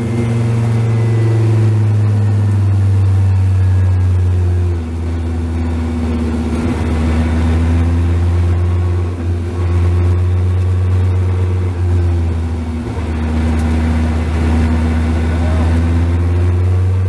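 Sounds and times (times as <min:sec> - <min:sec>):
race car engine droning: 0:00.0 - 0:17.0.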